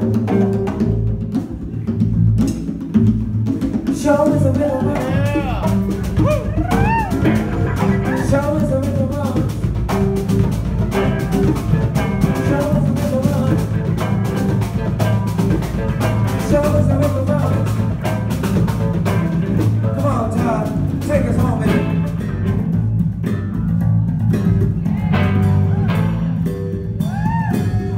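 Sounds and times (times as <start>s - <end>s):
bass guitar: 0.0s - 27.9s
drum kit beat: 0.0s - 27.9s
electric guitar: 4.8s - 27.9s.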